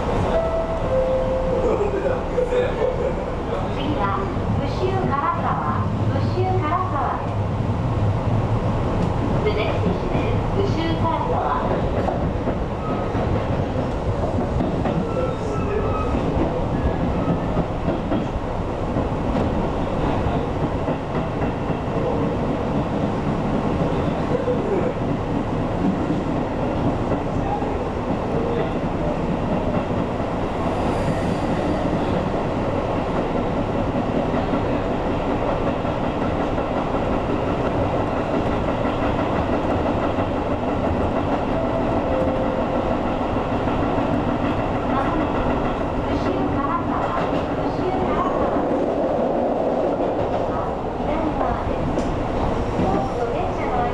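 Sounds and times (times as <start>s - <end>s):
train wheels on rails: 0.0s - 53.9s.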